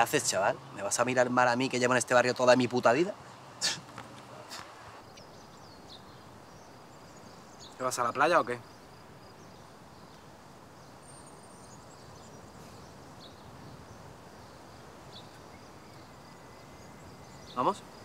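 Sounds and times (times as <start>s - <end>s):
thin insect-like hum: 0.0s - 18.0s.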